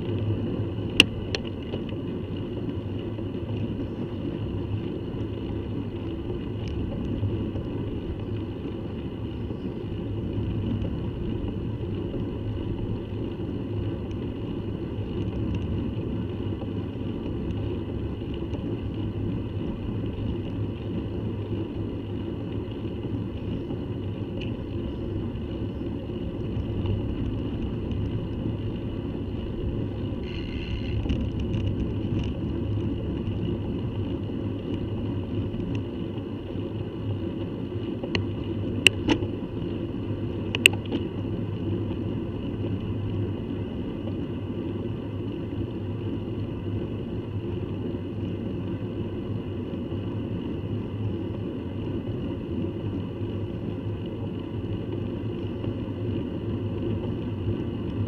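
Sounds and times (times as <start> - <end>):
tyre-on-road noise: 0.0 - 58.0
wind rumble: 0.0 - 58.0.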